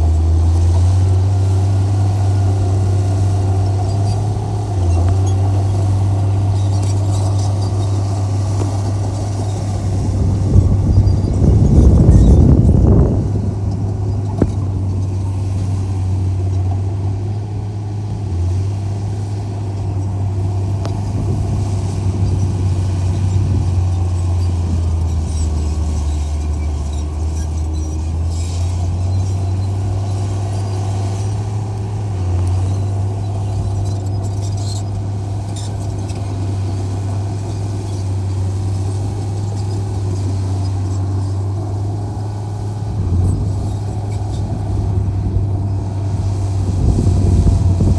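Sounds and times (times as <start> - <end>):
diesel engine droning: 0.0 - 47.9.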